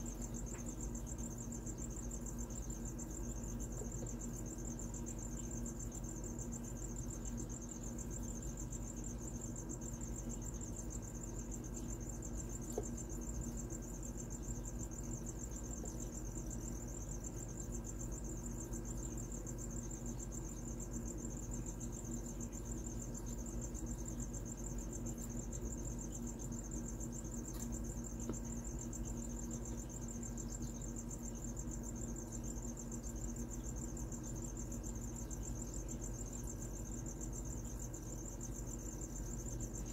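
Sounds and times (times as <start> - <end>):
cricket trill: 0.0 - 39.9
low steady hum: 0.0 - 39.9.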